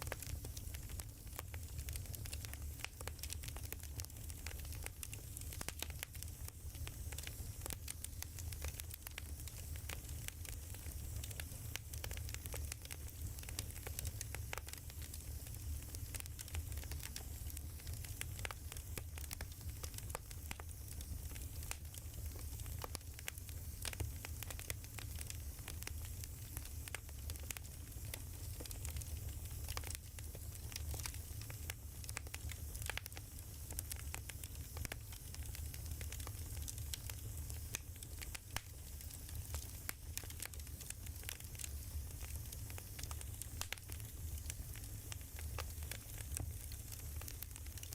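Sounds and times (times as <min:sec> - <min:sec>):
burning logs crackling: 0:00.0 - 0:47.9
fire low rumble: 0:00.0 - 0:47.9.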